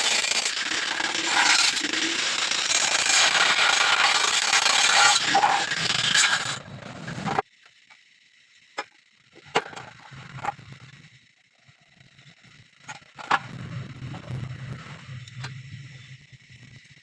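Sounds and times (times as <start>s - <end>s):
arc welding crackling and hissing: 0.0s - 17.0s.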